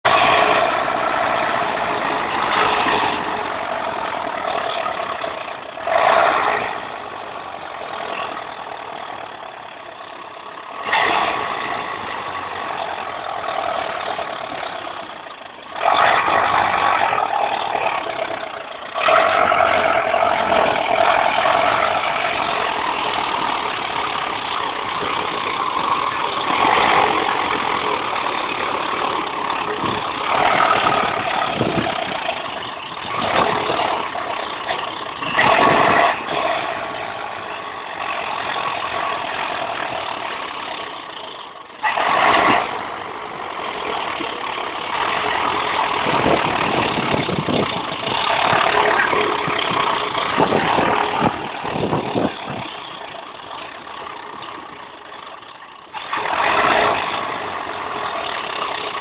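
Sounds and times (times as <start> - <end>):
tractor diesel engines revving: 0.0 - 59.0.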